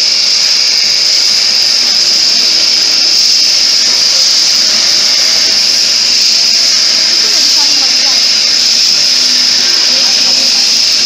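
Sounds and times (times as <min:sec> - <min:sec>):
electric coffee grinder grinding: 0:00.0 - 0:11.0.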